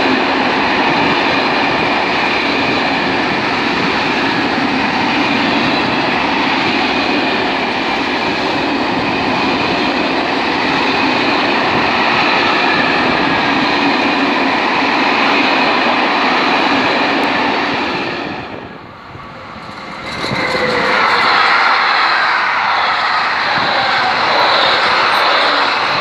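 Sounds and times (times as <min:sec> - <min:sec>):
approaching train: 0:00.0 - 0:26.0
freight train wheels rumbling: 0:00.0 - 0:26.0.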